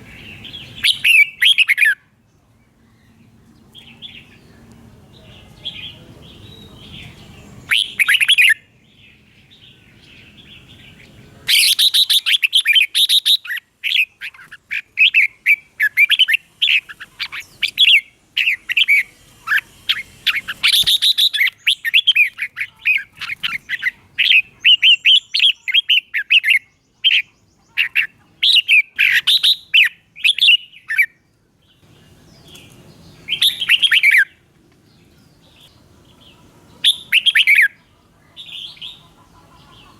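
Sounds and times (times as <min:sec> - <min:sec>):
bird singing warbling notes: 0:02.8 - 0:39.9.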